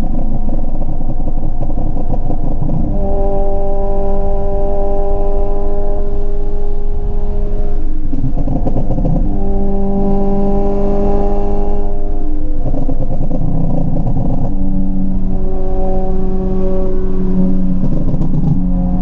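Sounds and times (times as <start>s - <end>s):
car engine and exhaust under load: 0.0s - 19.0s.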